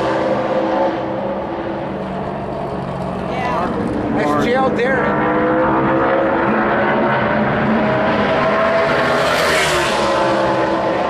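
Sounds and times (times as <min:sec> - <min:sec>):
race car engine passing by: 0:00.0 - 0:11.0.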